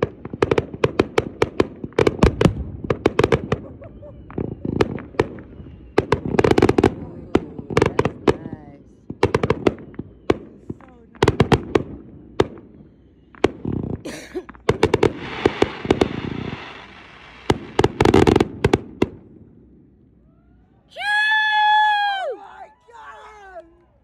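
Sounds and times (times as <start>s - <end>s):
fireworks crackling: 0.0s - 19.4s
fireworks bursting with sharp bangs: 0.0s - 20.0s.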